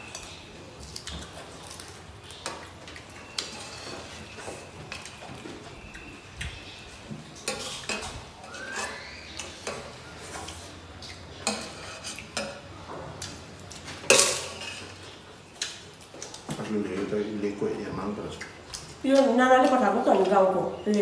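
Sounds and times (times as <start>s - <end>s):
fingers mixing rice on metal plates: 0.0s - 17.1s.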